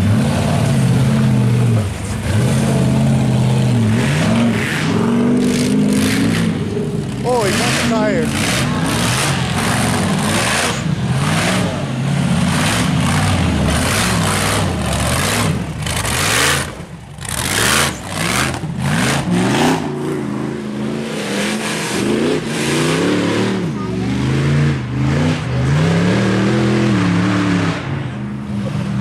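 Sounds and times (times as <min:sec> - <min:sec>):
buggy engine revving: 0:00.0 - 0:29.0.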